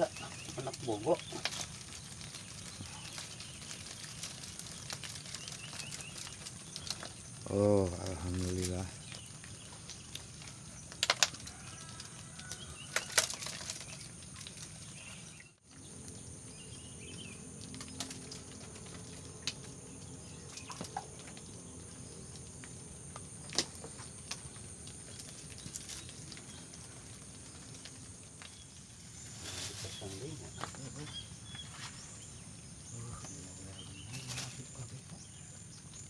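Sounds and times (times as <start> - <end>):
fish flapping on dirt: 0.0 - 16.1, 16.8 - 32.4.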